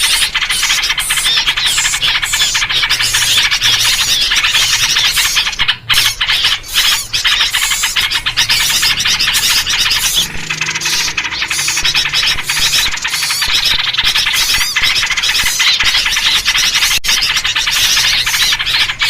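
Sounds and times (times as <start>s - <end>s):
many small birds chattering: 0.0s - 19.0s.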